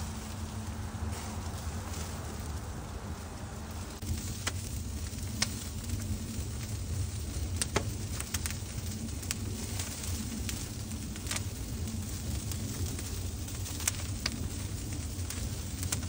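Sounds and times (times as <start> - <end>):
fire crackling and popping: 0.0 - 16.0
meat sizzling on a grill: 0.0 - 16.0.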